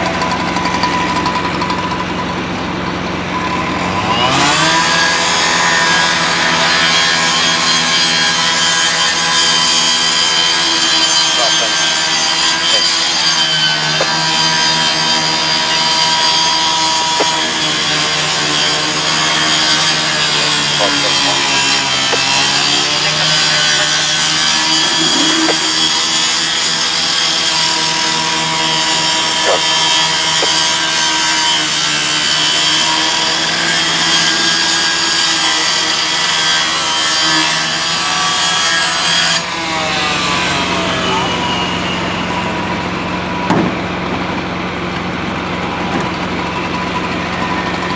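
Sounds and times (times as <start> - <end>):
cut-off saw cutting metal: 3.4 - 42.5.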